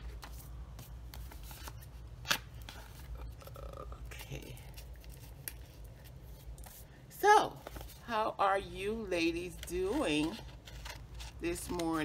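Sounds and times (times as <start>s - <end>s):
paper envelopes rustling: 0.0s - 6.9s, 7.6s - 8.2s, 9.4s - 12.0s.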